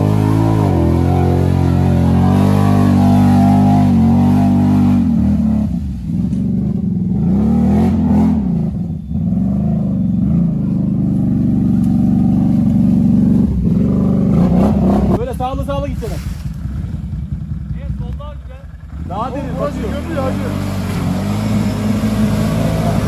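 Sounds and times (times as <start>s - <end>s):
atv engine revving: 0.0s - 15.9s, 16.5s - 23.0s.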